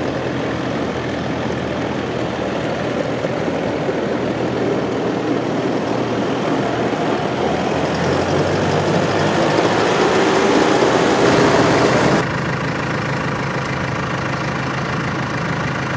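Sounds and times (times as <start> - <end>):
tractor diesel engine driving past: 0.0 - 15.9
tractor engine idling: 0.0 - 15.9.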